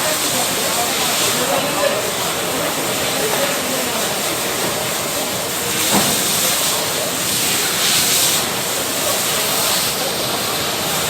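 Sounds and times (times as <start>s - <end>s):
fire hose spraying water: 0.0s - 11.0s.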